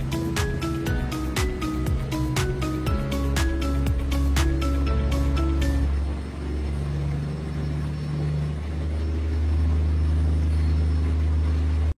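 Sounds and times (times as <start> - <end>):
diesel engine droning under load: 0.0 - 12.0.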